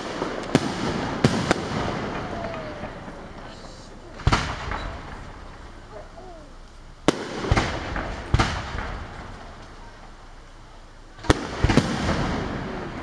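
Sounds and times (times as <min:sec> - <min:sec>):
firework shells bursting: 0:00.0 - 0:10.6.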